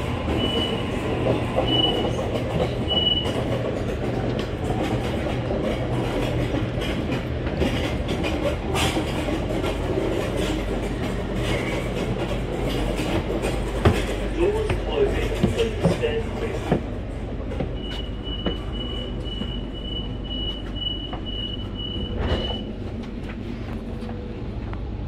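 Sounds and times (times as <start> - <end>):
train humming: 0.0 - 25.0
footsteps and knocks: 2.4 - 24.9.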